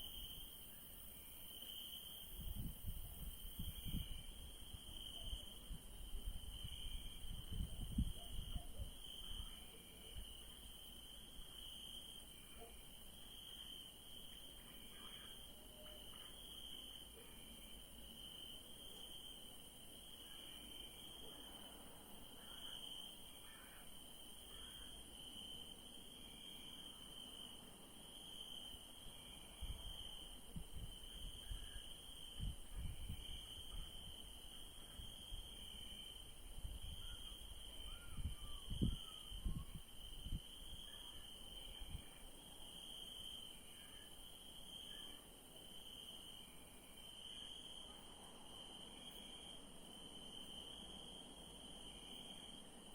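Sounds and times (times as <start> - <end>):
crickets chirping: 0.0 - 52.9
high hiss of insects: 0.0 - 52.9.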